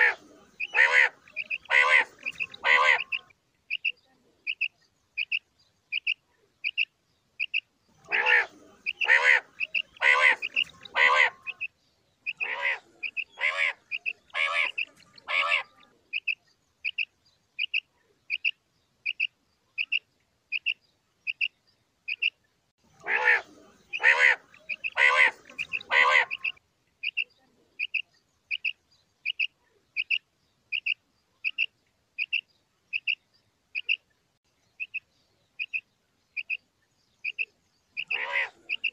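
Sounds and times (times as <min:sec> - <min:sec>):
louder fuller quail calls: 0:00.0 - 0:21.5, 0:22.1 - 0:33.2, 0:37.2 - 0:38.9
quail chirping: 0:00.0 - 0:22.4, 0:23.0 - 0:33.2, 0:33.8 - 0:34.0, 0:34.8 - 0:36.6, 0:37.2 - 0:38.9.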